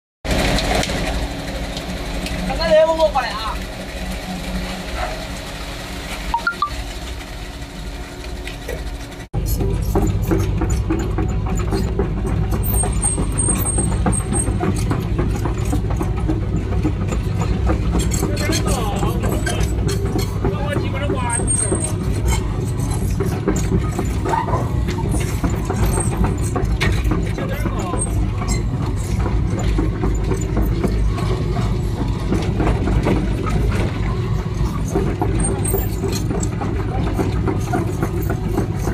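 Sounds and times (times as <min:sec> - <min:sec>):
excavator diesel engine running: 0:00.3 - 0:38.9.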